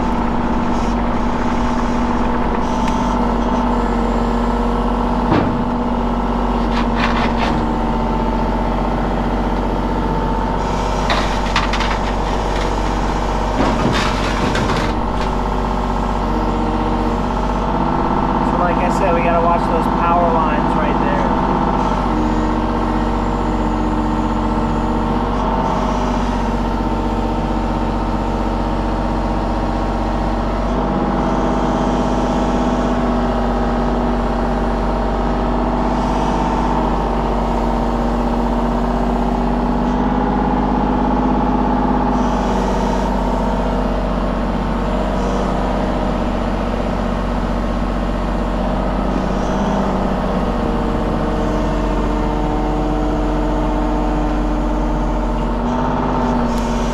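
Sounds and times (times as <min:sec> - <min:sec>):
engine running: 0:00.0 - 0:56.9.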